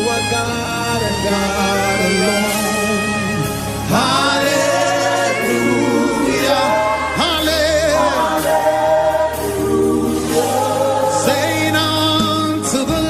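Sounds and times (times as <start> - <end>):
sustained bass chords: 0.0 - 13.0.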